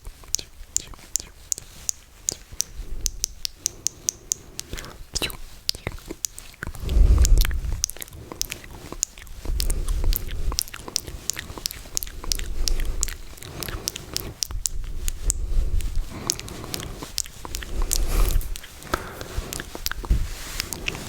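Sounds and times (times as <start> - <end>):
tongue and lip clicks: 0.0 - 21.0.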